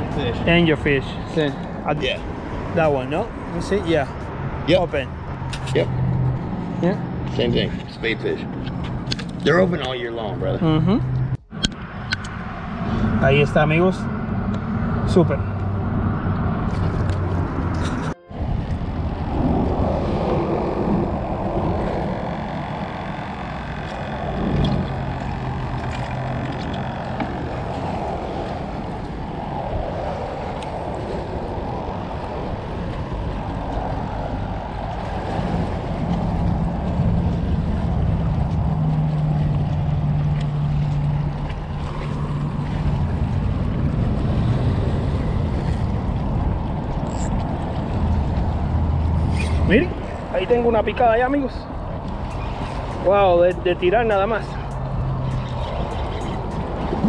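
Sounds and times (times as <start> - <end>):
low engine hum: 0.0 - 57.0
sea water: 0.0 - 57.0
wind: 0.0 - 57.0.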